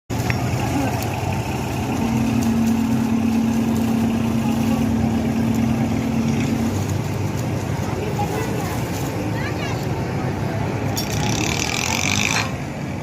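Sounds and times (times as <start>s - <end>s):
engine rumbling: 0.1s - 13.0s.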